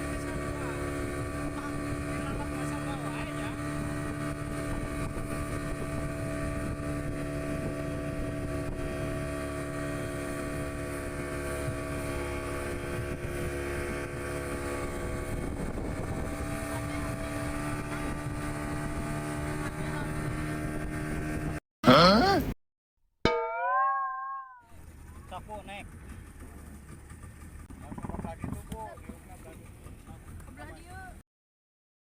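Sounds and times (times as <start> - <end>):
wind and water rumble: 0.0 - 21.4, 24.9 - 31.2
motorboat engine running: 0.0 - 22.2, 24.8 - 31.2.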